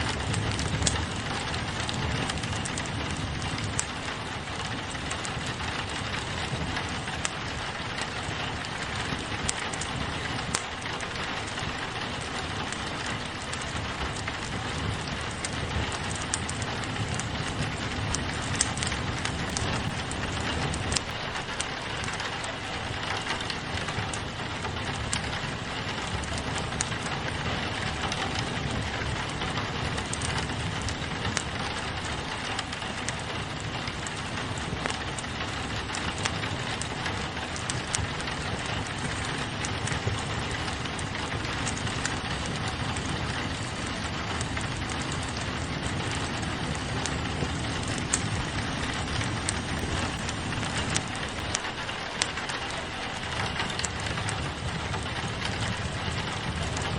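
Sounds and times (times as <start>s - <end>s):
fireplace crackling: 0.0s - 56.9s
rain pattering on a window: 0.0s - 56.9s.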